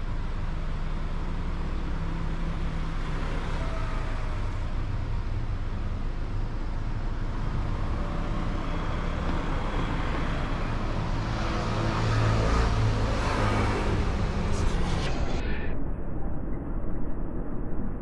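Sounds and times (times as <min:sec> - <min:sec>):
street traffic noise: 0:00.0 - 0:15.7
vehicle engine hum: 0:00.0 - 0:15.7.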